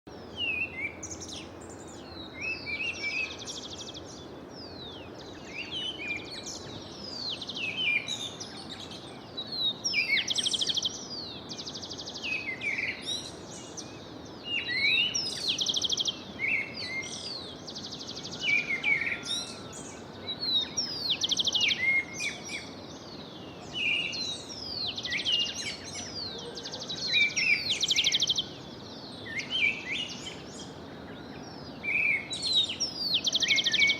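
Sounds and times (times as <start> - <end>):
songbirds singing: 0.1 - 33.9
steady background hiss: 0.1 - 33.9.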